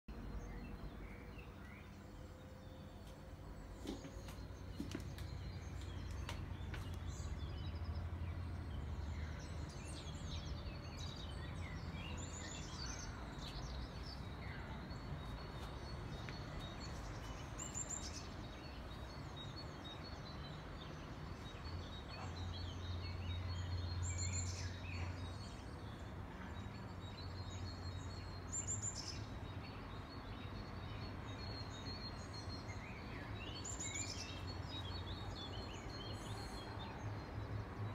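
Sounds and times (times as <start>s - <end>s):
birds chirping: 0.1s - 37.9s.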